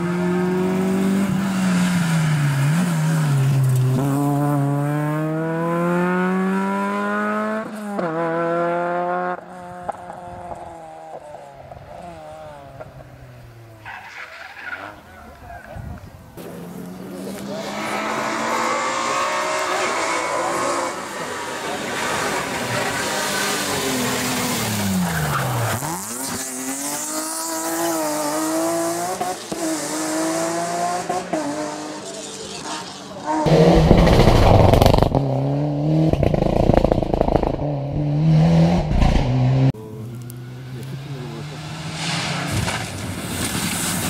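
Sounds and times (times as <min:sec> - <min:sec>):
rally car accelerating hard: 0:00.0 - 0:13.2, 0:16.4 - 0:44.0
rally car engine passing by: 0:00.0 - 0:15.2, 0:16.4 - 0:44.0.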